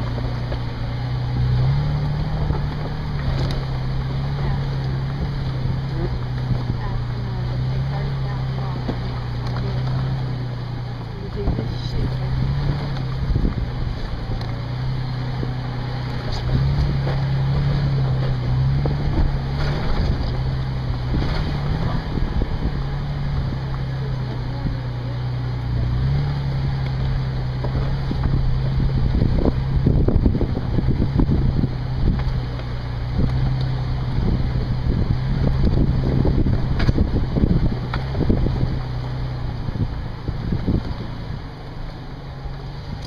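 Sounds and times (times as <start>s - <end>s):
wind buffeting microphone: 0.0s - 41.7s
off-road vehicle engine at low revs: 0.0s - 43.0s.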